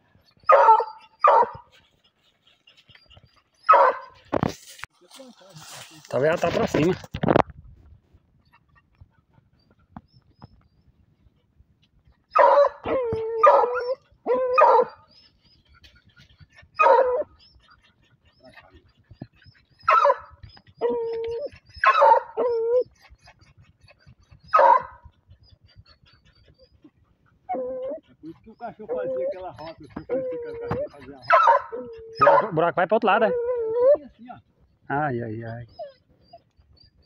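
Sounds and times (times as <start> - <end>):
dogs barking and yelping: 0.0 - 4.8, 8.2 - 37.0.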